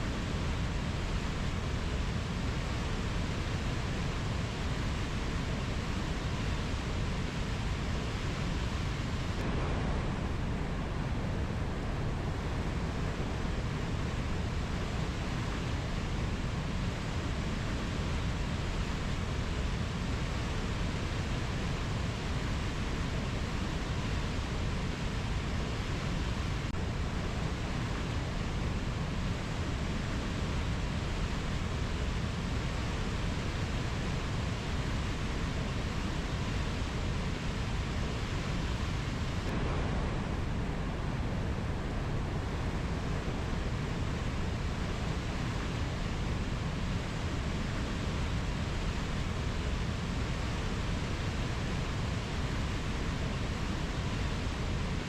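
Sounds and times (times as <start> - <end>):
rainforest ambience rushing noise: 0.0 - 55.0.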